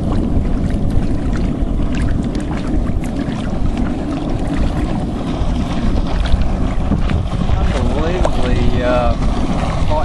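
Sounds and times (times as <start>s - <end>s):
boat engine rumble: 0.0s - 10.0s
boat knocking and rattling: 0.0s - 10.0s
wind on microphone: 0.0s - 10.0s.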